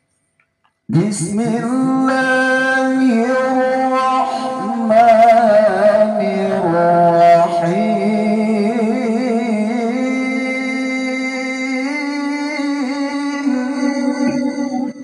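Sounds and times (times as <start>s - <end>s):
man reciting melodically through pa: 0.9s - 15.0s.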